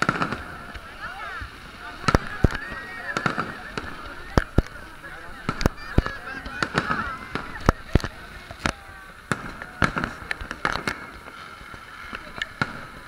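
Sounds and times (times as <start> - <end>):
crowd voices: 0.0 - 13.0
fireworks exploding: 0.0 - 13.0.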